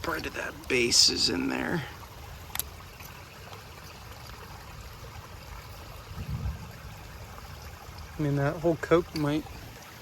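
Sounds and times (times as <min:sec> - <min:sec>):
creek water trickling: 0:00.0 - 0:10.0.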